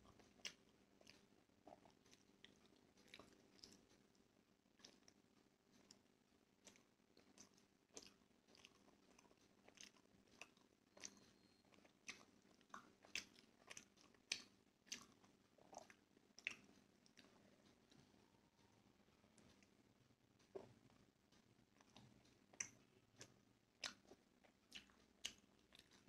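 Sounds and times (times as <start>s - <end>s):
person chewing with lip smacks: 0.1s - 4.0s, 4.8s - 6.0s, 6.6s - 18.7s, 20.4s - 26.0s.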